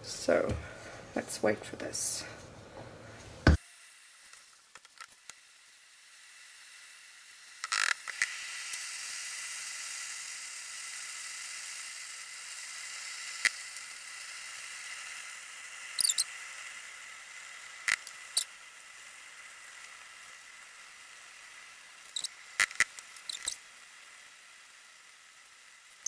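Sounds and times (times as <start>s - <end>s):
soap boiling with sizzling pops: 3.6s - 26.0s.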